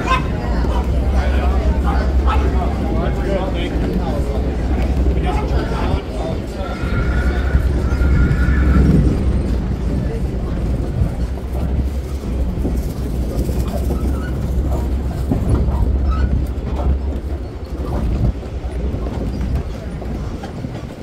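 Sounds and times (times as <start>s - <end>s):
tram rumbling over wooden boards: 0.0s - 21.0s.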